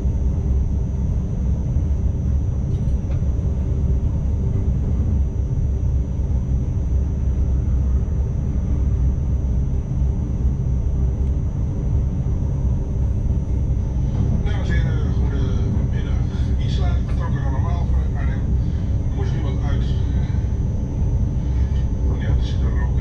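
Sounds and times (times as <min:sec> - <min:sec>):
faint steady whine: 0:00.0 - 0:23.0
train rumbling: 0:00.0 - 0:23.0.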